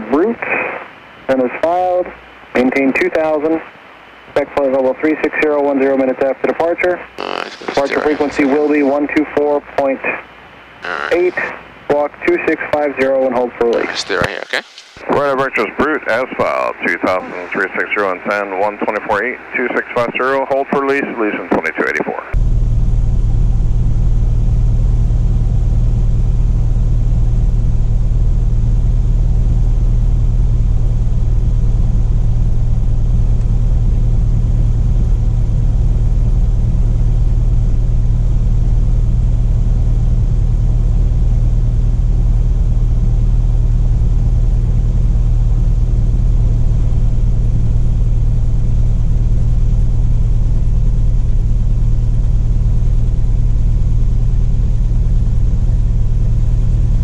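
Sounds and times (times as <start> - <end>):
propeller aircraft engine droning: 0.0 - 20.0, 22.3 - 57.0.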